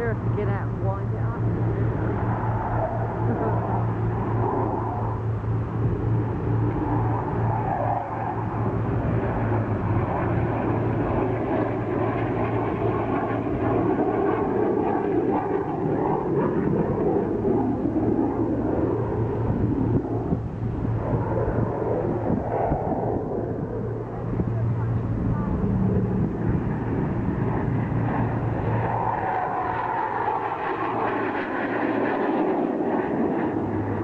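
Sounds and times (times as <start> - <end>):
jet and propeller aircraft drone: 0.0 - 34.0.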